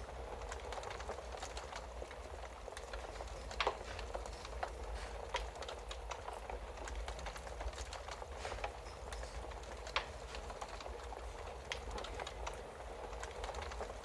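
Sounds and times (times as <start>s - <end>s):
fire pops and snaps: 0.0s - 14.0s
hiss of burning logs: 0.0s - 14.0s
wood fire crackling: 0.0s - 14.0s.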